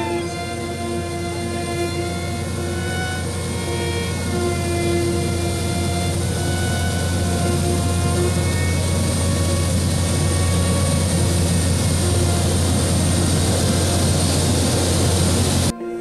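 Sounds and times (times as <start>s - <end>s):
low hum: 0.0s - 15.8s
small plane engine drone in cabin: 0.0s - 15.8s.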